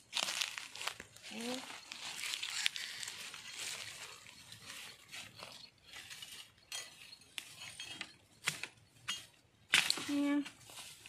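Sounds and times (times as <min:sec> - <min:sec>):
dry bamboo leaves rustling: 0:00.0 - 0:08.7, 0:09.7 - 0:11.0.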